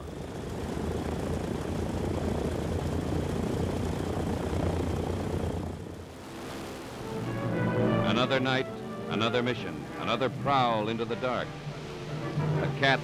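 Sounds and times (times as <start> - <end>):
aircraft propeller engines droning: 0.0 - 13.0.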